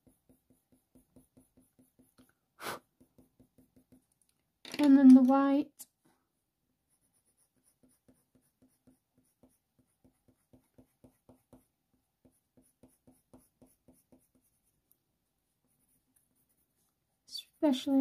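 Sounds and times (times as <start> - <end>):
pencil scratching on paper: 0.0 - 4.2, 6.7 - 18.0.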